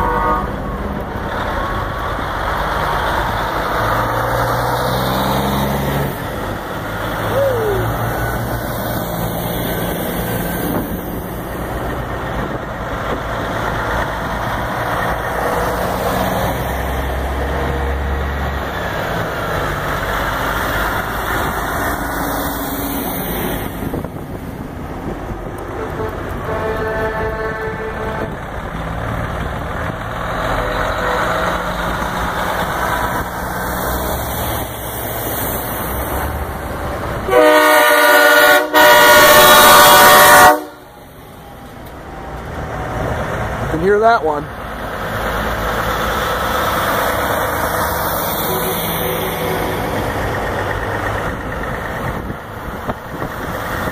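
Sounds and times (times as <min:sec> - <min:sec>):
diesel trucks driving past: 0:00.0 - 0:53.9.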